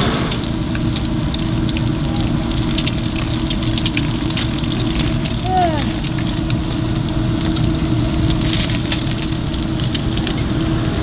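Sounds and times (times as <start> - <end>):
food sizzling in hot oil: 0.0 - 11.0
low hum and rumble: 0.0 - 11.0.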